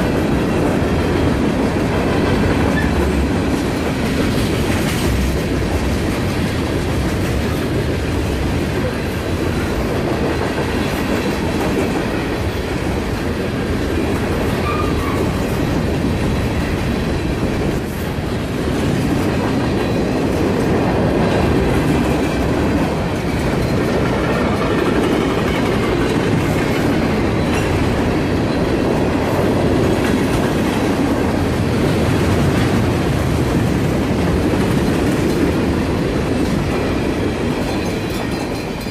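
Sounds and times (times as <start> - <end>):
freight train rumbling past: 0.0 - 38.9
train wheels clacking on rail joints: 0.0 - 38.9.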